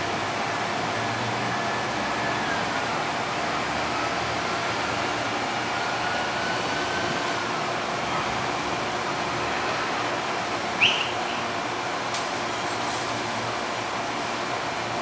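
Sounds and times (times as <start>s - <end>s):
idling train hum and hiss: 0.0s - 15.0s.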